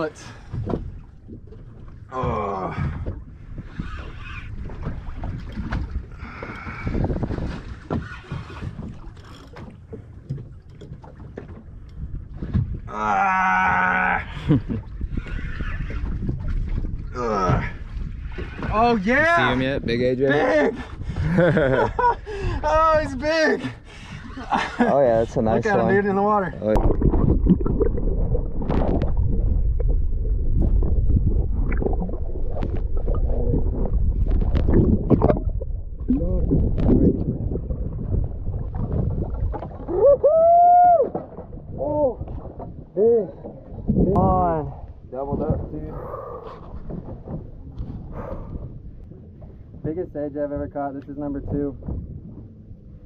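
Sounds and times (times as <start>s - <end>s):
underwater rumbling and bubbles: 0.0s - 22.7s, 23.8s - 53.0s
wind buffeting the microphone: 0.0s - 53.0s.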